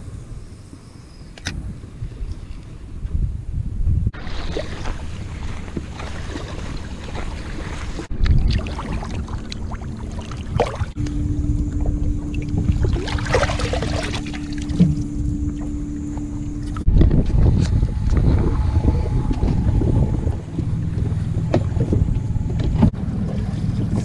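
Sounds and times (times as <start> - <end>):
wind buffeting microphone: 0.0 - 24.0
steady low hum: 3.2 - 24.0
water splashing and lapping: 4.2 - 24.0.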